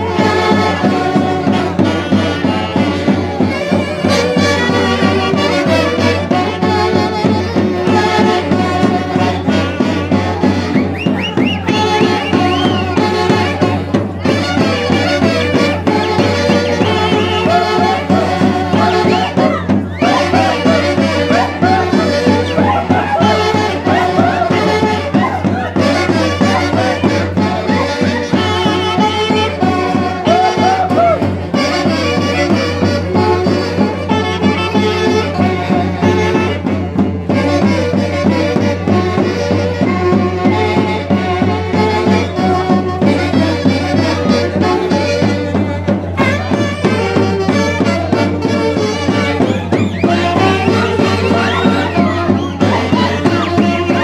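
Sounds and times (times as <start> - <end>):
festive wind band music: 0.0 - 54.0.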